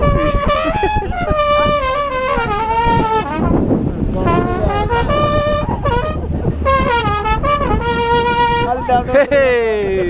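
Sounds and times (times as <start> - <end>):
small brass horn notes: 0.0 - 8.7
bus engine and road rumble: 0.0 - 10.0.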